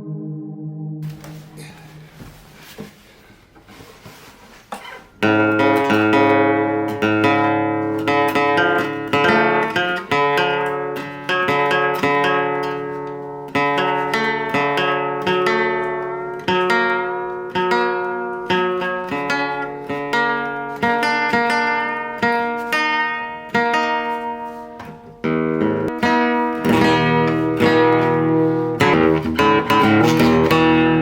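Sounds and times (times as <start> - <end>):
classical guitar fingerstyle: 3.8 - 31.0.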